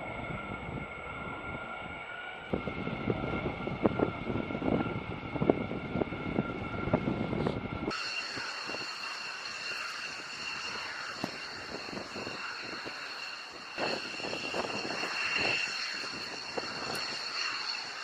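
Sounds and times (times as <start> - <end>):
jet engine turbine whine: 0.0 - 18.0.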